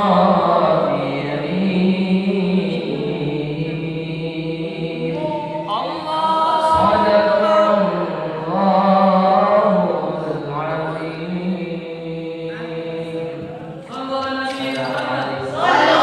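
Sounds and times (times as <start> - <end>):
melodic vocal chanting: 0.0 - 16.0.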